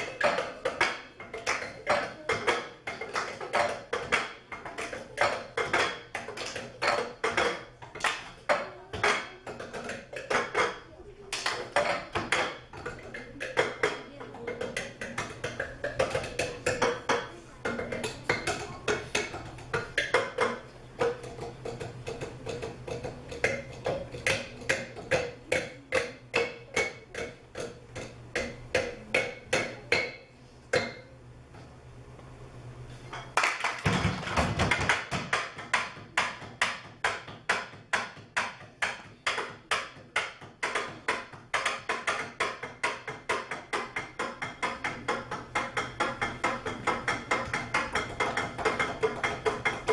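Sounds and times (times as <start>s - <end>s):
cups struck in rhythm: 0.0s - 31.4s, 33.1s - 49.9s.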